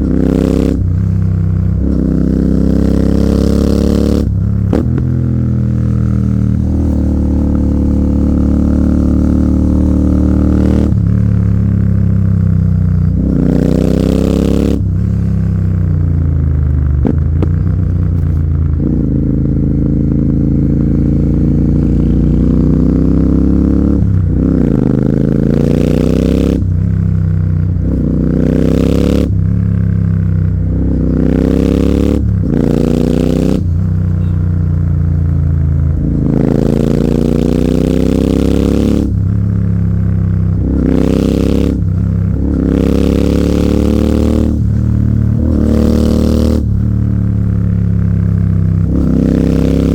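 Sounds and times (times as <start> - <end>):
motorcycle engine accelerating hard: 0.0 - 49.9.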